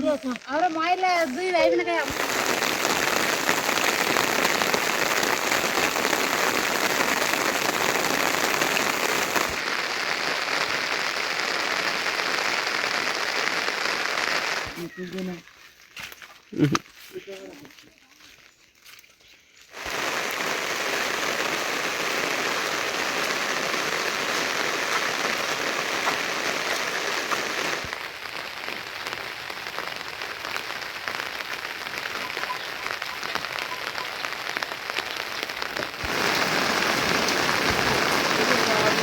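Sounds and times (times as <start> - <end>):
rain falling: 0.0 - 18.0, 19.7 - 39.0.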